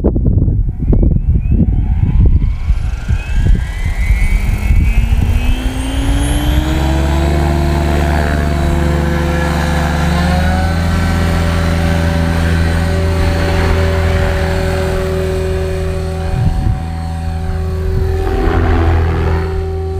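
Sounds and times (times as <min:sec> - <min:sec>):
helicopter rotor hum: 0:00.7 - 0:19.9
rc helicopter motor whine: 0:00.7 - 0:19.9.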